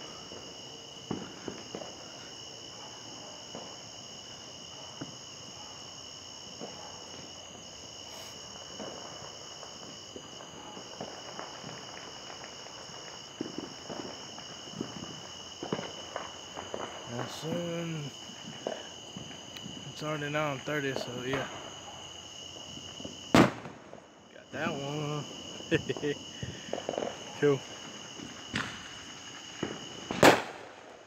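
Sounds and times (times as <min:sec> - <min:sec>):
insect chorus drone: 0:00.0 - 0:31.0.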